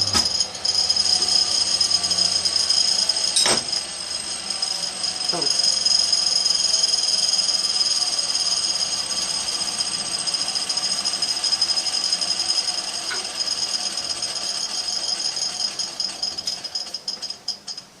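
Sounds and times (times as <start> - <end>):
small machine whining and rattling: 0.0 - 18.0.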